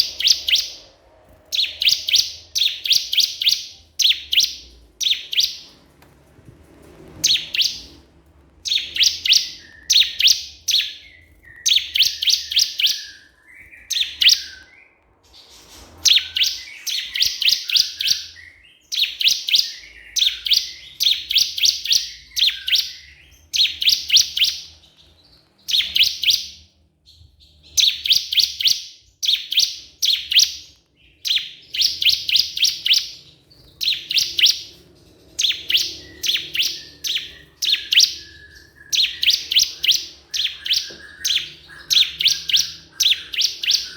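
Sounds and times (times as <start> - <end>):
bird singing sharp repeated notes: 0.0 - 5.8, 7.2 - 8.0, 8.6 - 15.0, 16.0 - 43.9.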